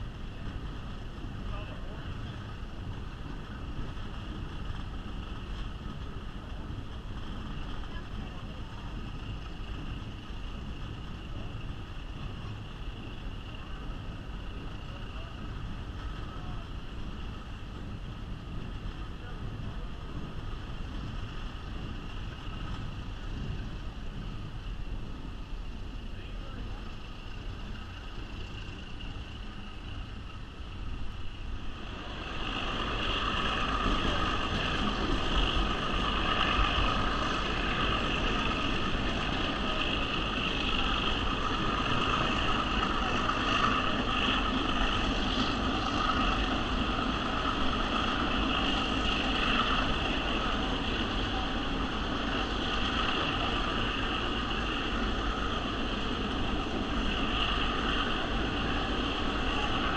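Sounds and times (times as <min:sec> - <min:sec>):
train wheels rumbling on rails: 0:00.0 - 0:59.9
wind: 0:00.0 - 0:59.9.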